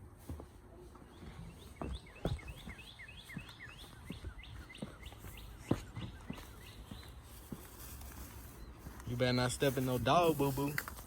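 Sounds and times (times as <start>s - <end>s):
songbird chirping: 0.2s - 11.0s.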